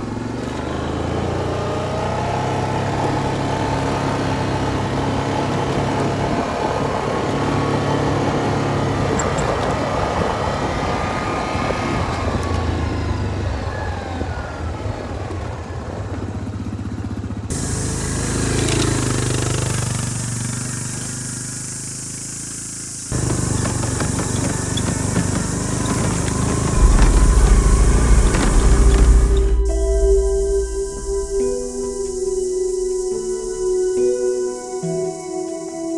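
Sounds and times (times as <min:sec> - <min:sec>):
vehicle engine running: 0:00.0 - 0:35.4.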